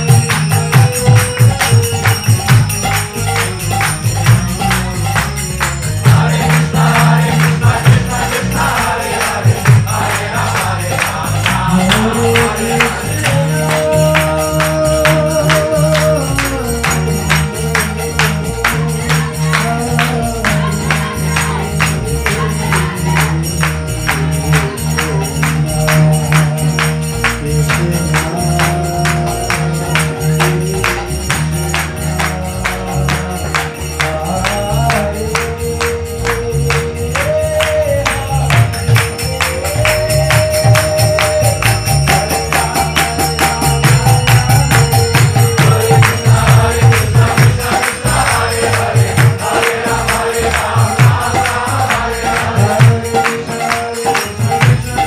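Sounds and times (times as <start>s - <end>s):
jingling metallic percussion: 0.0s - 55.0s
man singing into a microphone: 6.0s - 55.0s.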